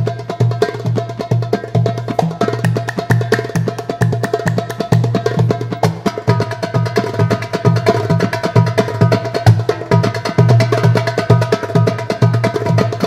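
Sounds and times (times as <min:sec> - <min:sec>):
hand drums playing fast rhythm: 0:00.0 - 0:13.0.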